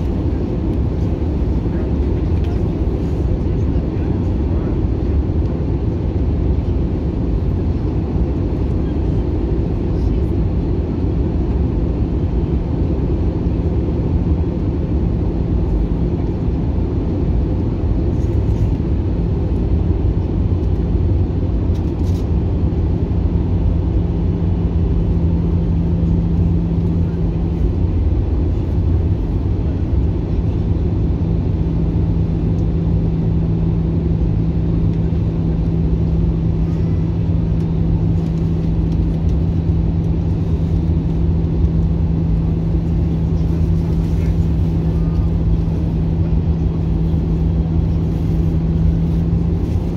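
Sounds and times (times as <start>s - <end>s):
jet cabin engine rumble: 0.0s - 49.9s.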